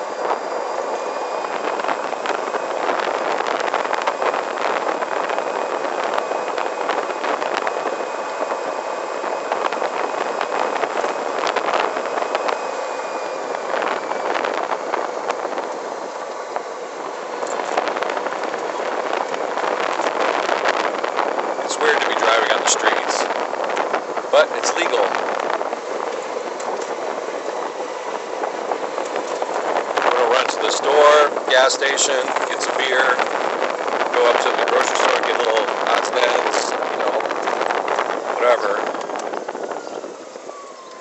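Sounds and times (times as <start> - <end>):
faint high whine: 0.0 - 41.0
wind and tyre noise: 0.0 - 41.0.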